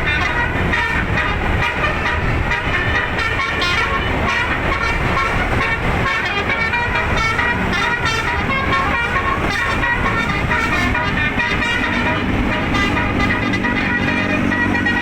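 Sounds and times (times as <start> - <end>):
musical air horn melody: 0.0 - 15.0.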